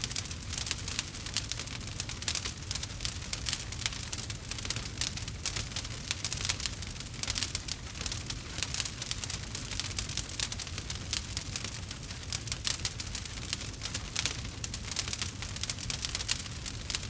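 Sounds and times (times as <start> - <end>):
campfire wood crackling: 0.0 - 17.0
fire low rumble: 0.0 - 17.0.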